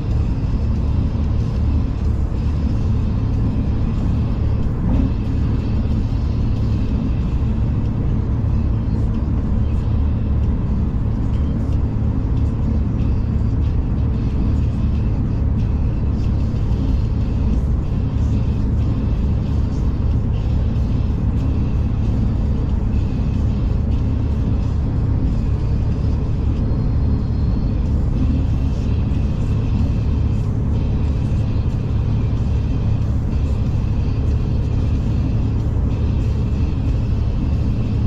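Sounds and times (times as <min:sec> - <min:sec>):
passenger train rumbling: 0:00.0 - 0:38.0.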